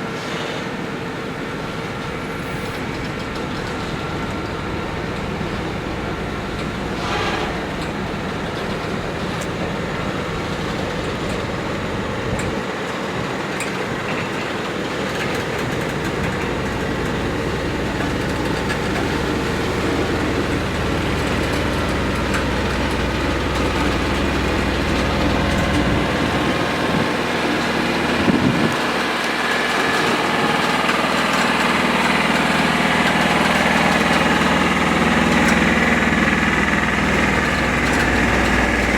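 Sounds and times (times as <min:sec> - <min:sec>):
locomotive diesel engine running: 0:01.0 - 0:38.9.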